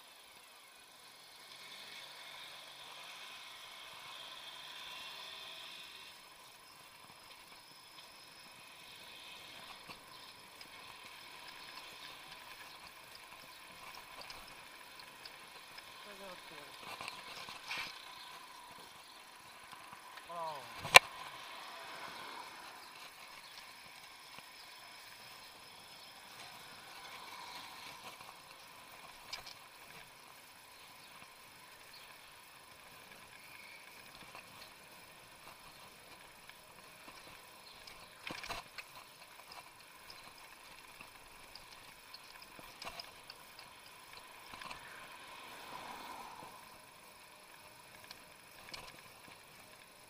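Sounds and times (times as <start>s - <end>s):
faint steady hiss: 0.0s - 50.0s
light rattles and clicks: 6.6s - 21.6s, 22.6s - 50.0s.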